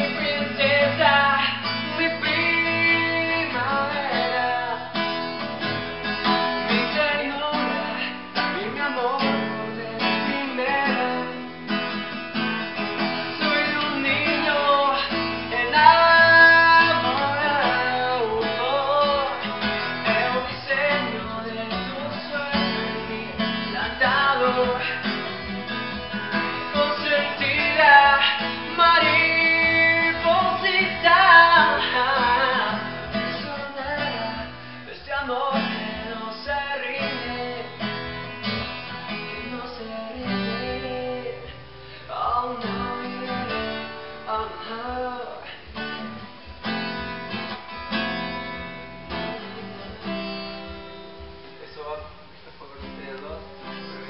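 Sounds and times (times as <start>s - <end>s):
man singing: 0.0s - 12.0s, 12.8s - 47.0s, 48.7s - 50.2s, 51.6s - 54.0s
acoustic guitar: 0.0s - 54.0s.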